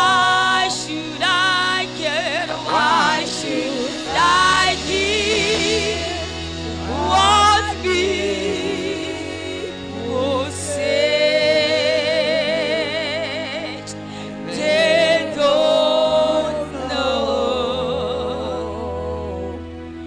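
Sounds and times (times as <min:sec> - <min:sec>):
woman singing gospel: 0:00.0 - 0:19.5
sustained low backing: 0:00.0 - 0:20.0.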